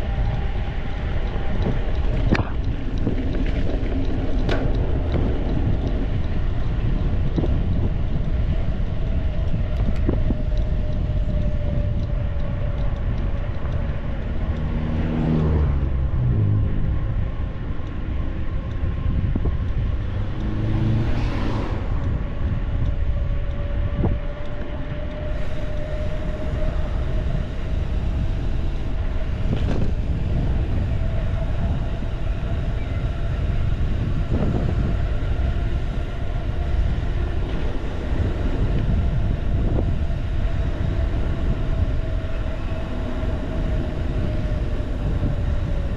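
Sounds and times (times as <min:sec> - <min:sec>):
motor vehicles passing: 0:00.0 - 0:45.9
wind rushing over microphone: 0:00.0 - 0:45.9.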